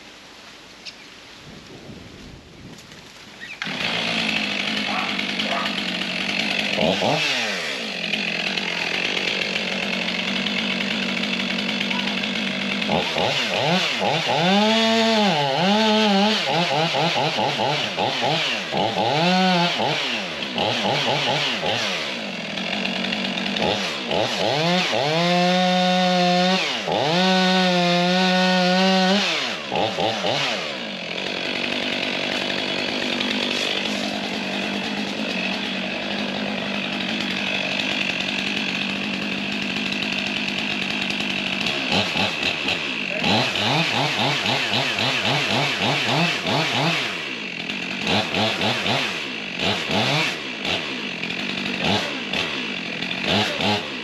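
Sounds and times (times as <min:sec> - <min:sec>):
chainsaw revving and cutting: 0:03.6 - 0:54.0.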